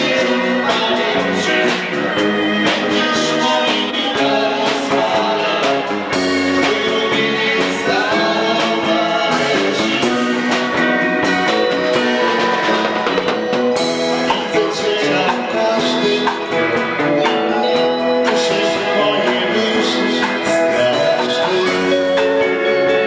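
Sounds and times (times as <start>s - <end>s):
band playing guitar and drums: 0.0s - 23.0s.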